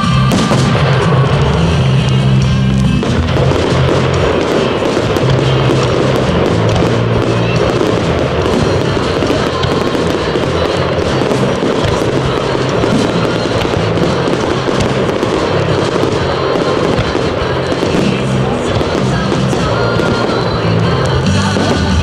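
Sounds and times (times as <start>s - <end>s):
fireworks crackling and banging: 0.0s - 22.0s
music playing: 0.0s - 22.0s.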